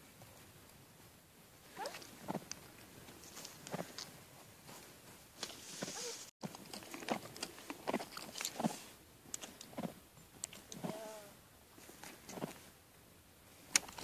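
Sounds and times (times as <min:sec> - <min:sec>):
horse hooves crunching in snow: 0:00.0 - 0:12.8.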